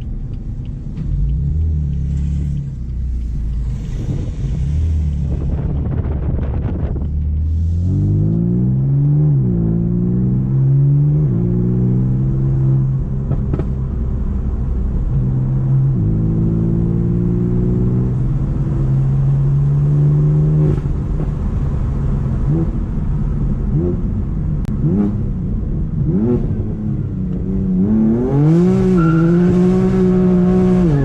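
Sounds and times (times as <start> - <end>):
car engine accelerating and upshifting: 0.0 - 31.0.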